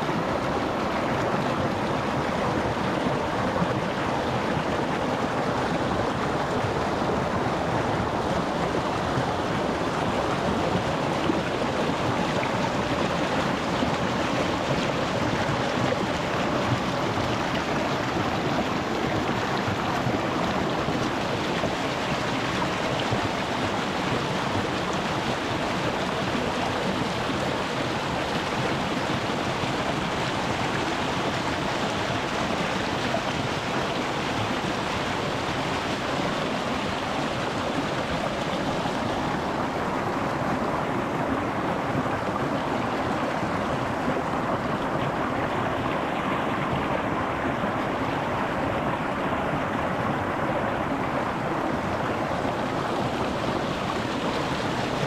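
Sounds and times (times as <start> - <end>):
stream splashing over stones: 0.0 - 55.0.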